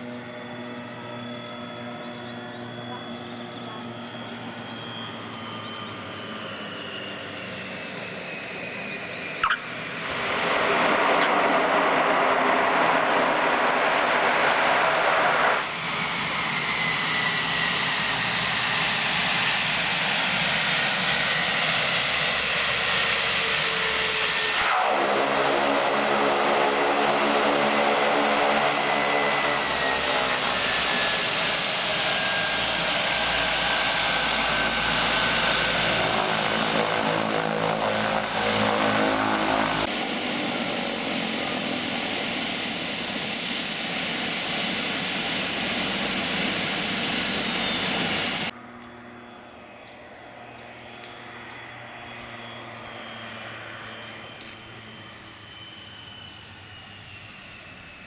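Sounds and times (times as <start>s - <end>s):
low propeller drone: 0.0s - 58.0s
turboprop engine turbine whine: 0.0s - 58.0s.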